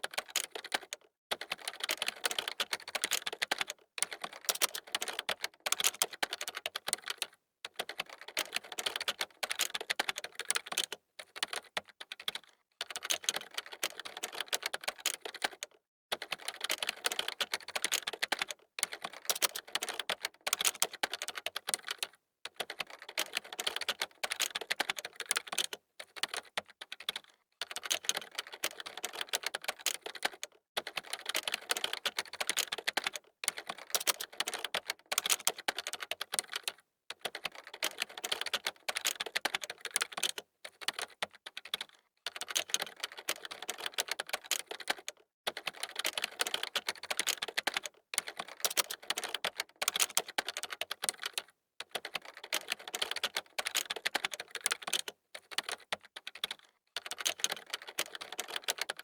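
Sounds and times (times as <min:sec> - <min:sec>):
fast typing on keyboard: 0:00.0 - 0:59.0.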